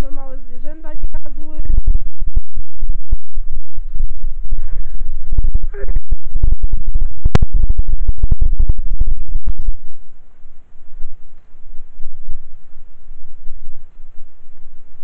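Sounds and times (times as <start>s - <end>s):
buffeting on camera microphone: 0.0s - 14.0s.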